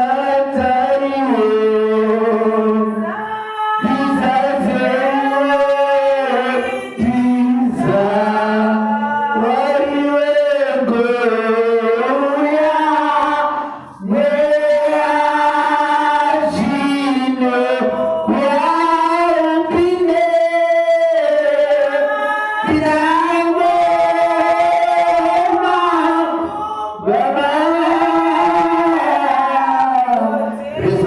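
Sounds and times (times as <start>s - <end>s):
person singing worship song: 0.0s - 31.0s.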